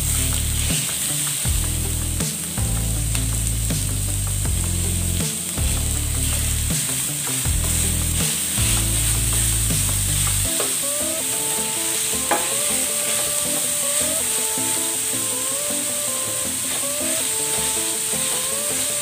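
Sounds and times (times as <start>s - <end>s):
meat and onion sizzling in a pan: 0.0s - 19.0s.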